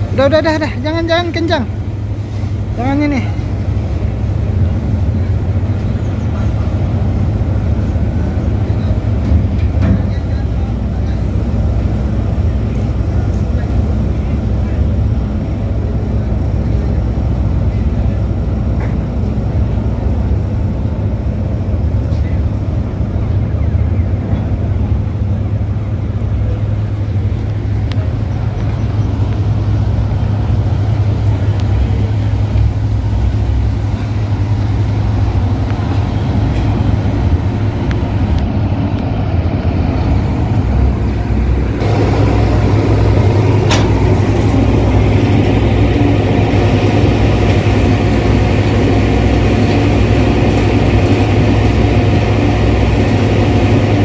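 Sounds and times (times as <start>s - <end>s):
boat diesel engine rumbling: 0.0s - 54.0s.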